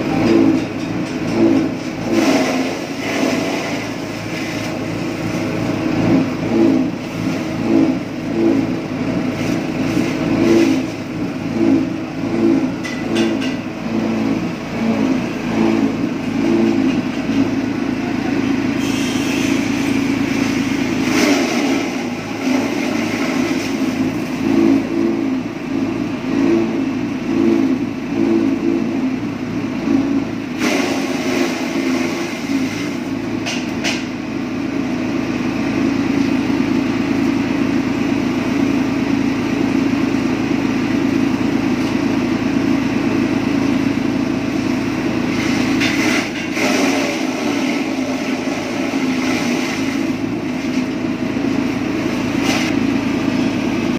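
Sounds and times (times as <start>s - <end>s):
forage chopper engine hum: 0.0s - 53.9s.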